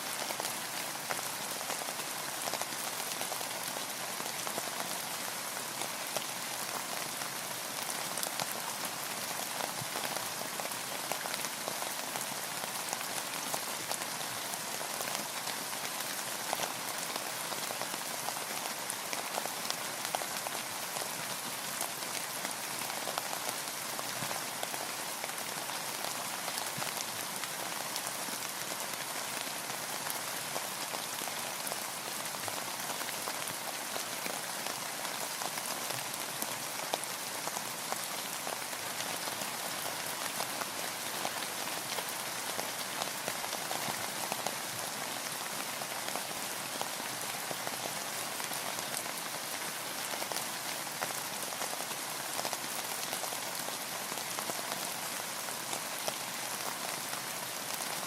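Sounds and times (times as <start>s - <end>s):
rain falling on a boat: 0.0s - 58.0s.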